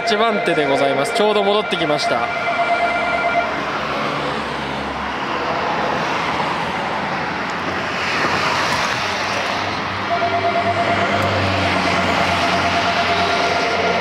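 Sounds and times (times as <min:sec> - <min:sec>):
cars driving past: 0:00.0 - 0:14.0.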